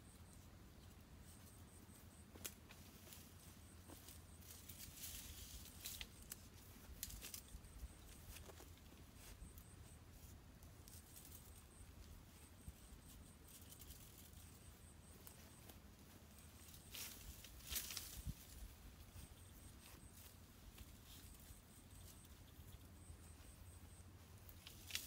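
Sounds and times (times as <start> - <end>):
twigs and branches rustling: 0.2 - 25.0.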